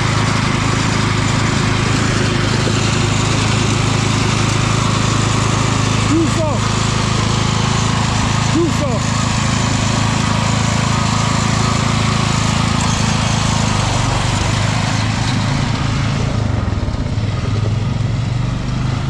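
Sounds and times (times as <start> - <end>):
riding mower engine under load: 0.0 - 19.0.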